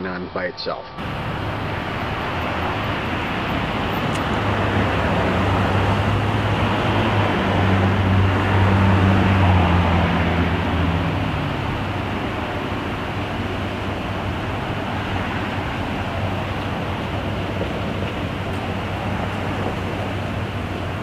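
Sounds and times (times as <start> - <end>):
hiss of passing traffic: 1.0 - 21.0
pickup truck engine hum: 1.0 - 21.0.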